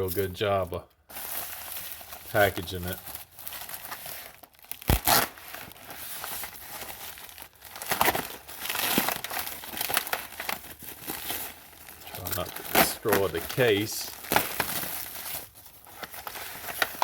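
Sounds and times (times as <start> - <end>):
packaging crinkling and tearing: 1.1 - 17.0.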